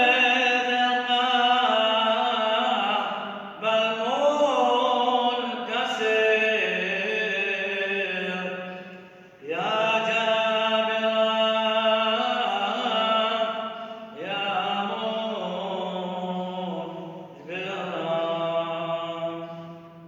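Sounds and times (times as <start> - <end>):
man singing chant: 0.0 - 20.0.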